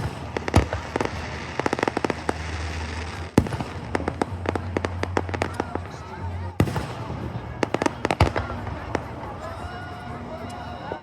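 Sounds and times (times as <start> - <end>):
fireworks booming: 0.0 - 10.3
firecrackers cracking: 0.0 - 10.8.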